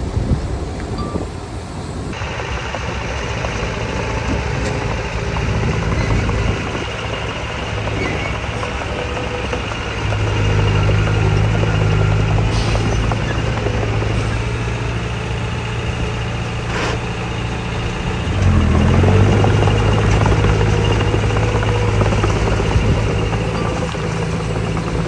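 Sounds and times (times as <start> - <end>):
heavy machinery engines running: 0.0 - 25.0.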